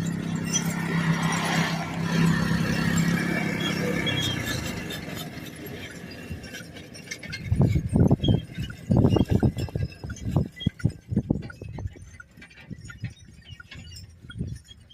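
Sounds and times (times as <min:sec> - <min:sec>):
harness chains clinking: 0:00.0 - 0:14.9.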